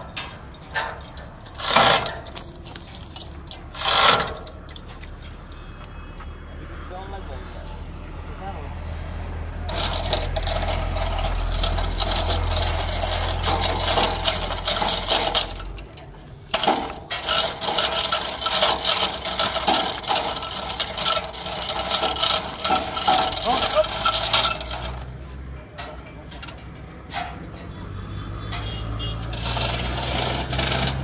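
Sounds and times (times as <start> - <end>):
steel chain rattling through hoist: 0.0 - 5.0, 9.7 - 27.8, 28.5 - 31.0.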